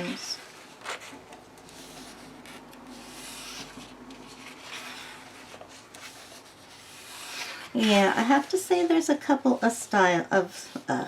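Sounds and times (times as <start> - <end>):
paper pages rustling: 0.0 - 9.2.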